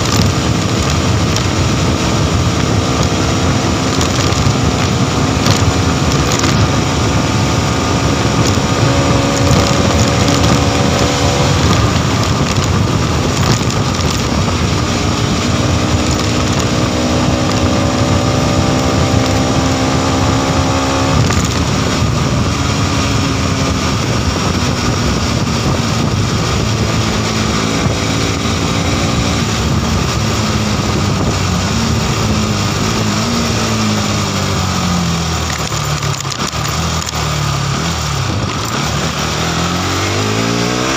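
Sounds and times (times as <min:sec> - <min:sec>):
motorcycle engine running: 0:00.0 - 0:40.9
wind rush over microphone: 0:00.0 - 0:40.9.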